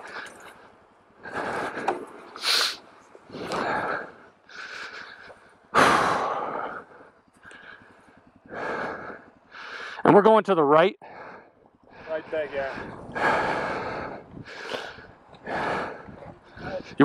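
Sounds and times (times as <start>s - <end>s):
person breathing hard: 0.0s - 10.0s, 11.0s - 17.0s.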